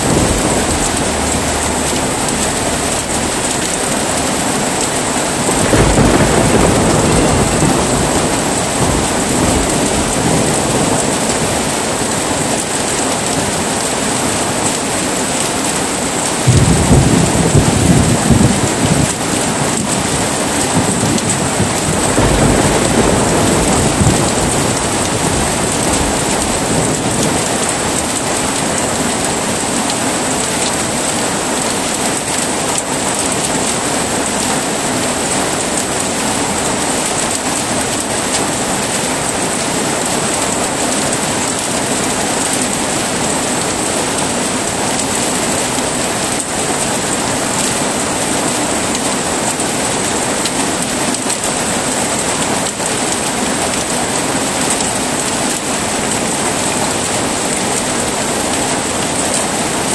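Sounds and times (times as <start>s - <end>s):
heavy rain: 0.0s - 59.9s
thunder rumbling and cracking: 0.0s - 59.9s.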